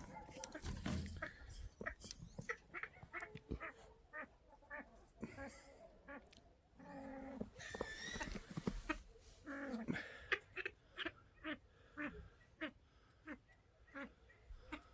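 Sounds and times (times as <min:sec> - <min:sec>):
ducks quacking: 0:00.0 - 0:14.9.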